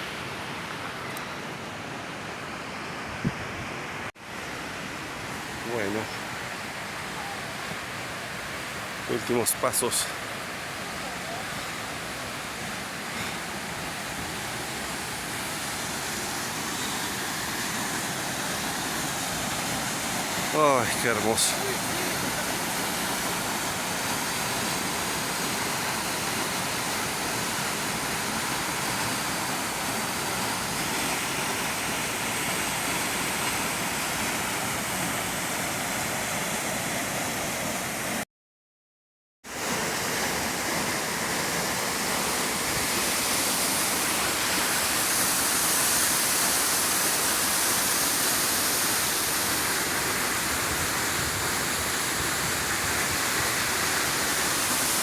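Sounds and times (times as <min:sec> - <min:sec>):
waterfall roaring: 0:03.7 - 0:38.2, 0:39.6 - 0:55.0.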